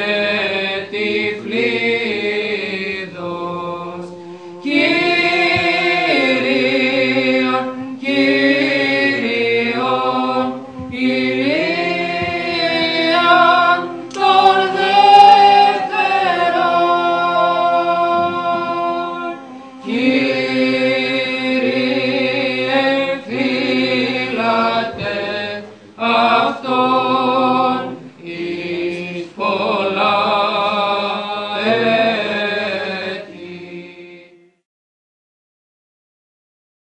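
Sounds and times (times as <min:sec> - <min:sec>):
choir chanting a cappella: 0:00.0 - 0:34.7.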